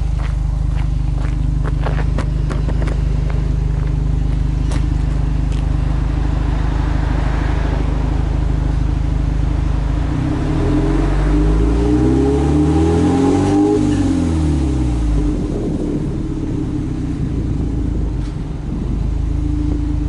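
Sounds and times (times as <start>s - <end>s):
engine revs climbing: 0.0s - 19.0s
car engine idling: 0.0s - 20.0s.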